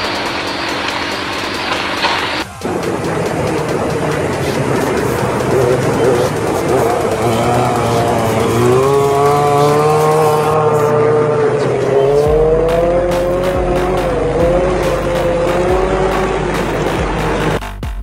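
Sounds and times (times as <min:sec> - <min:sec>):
motorcycle engine at high revs: 0:00.0 - 0:17.6.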